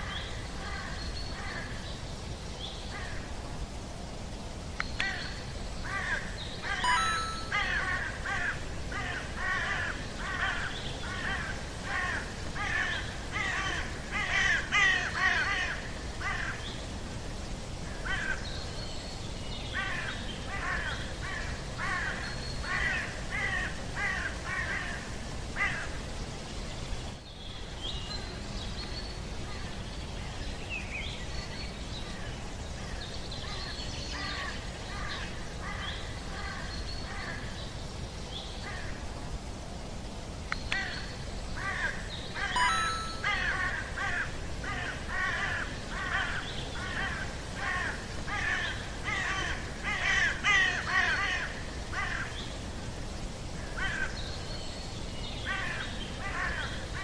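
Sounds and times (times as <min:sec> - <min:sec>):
outdoor hiss: 0:00.0 - 0:57.0.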